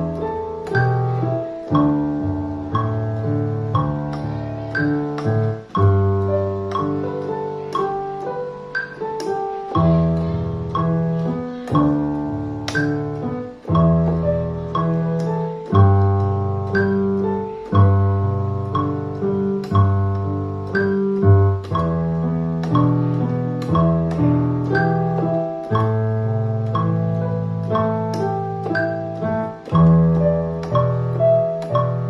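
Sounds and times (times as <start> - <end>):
electronic keyboard melody: 0.0 - 32.0.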